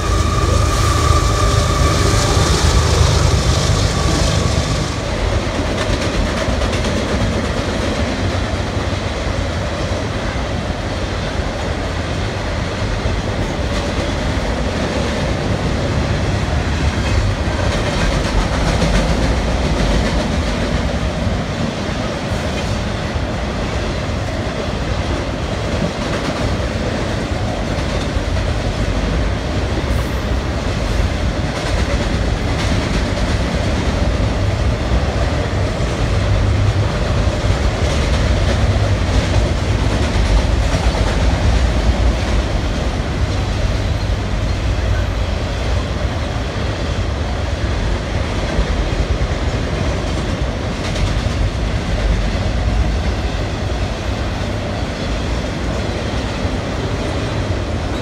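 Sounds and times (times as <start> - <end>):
freight train rolling over bridge: 0.0 - 58.0.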